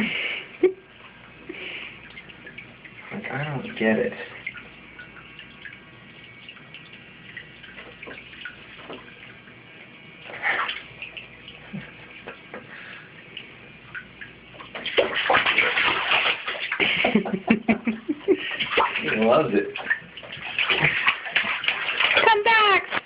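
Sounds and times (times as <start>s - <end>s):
water dripping: 0.9s - 23.0s
baby splashing bathwater: 1.5s - 17.4s, 18.0s - 23.0s.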